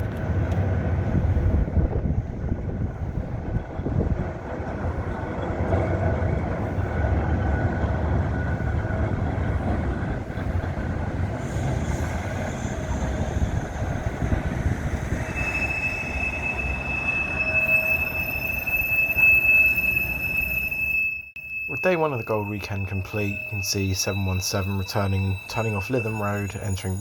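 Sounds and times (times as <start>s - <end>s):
tram rumbling on track: 0.0s - 27.0s
tram wheels squealing: 0.0s - 27.0s.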